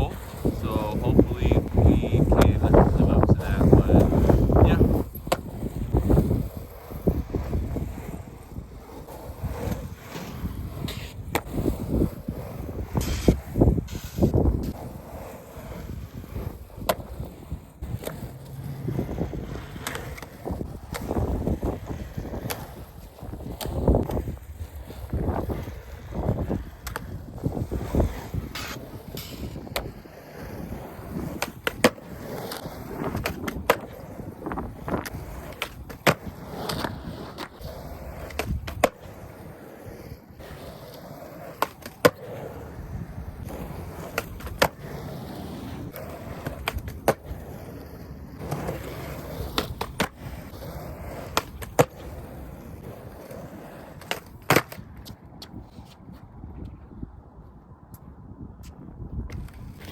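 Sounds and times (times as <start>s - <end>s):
skateboard clacking on ground: 0.0s - 56.9s
skateboard wheels rolling on pavement: 0.0s - 59.9s.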